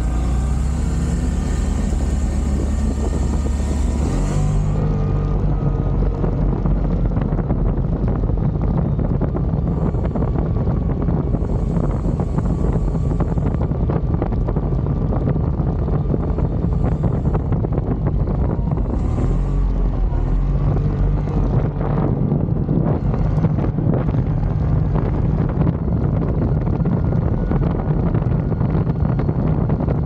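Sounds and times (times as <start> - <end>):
atv engine running: 0.0 - 30.0
wind on microphone: 0.0 - 30.0.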